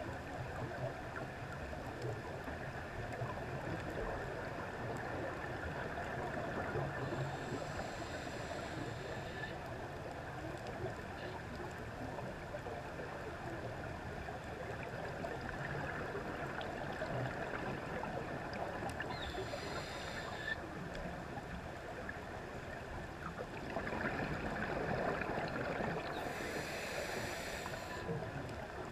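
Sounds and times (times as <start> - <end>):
muffled underwater noise: 0.1 - 28.9.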